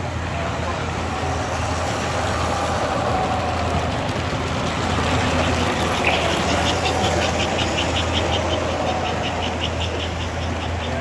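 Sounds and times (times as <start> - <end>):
model train humming: 0.0 - 11.0.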